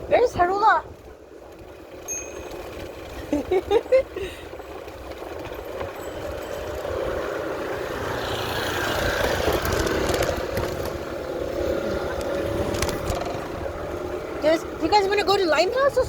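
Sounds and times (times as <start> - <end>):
wind buffeting microphone: 0.0 - 16.0
passing traffic engine hum: 1.7 - 16.0.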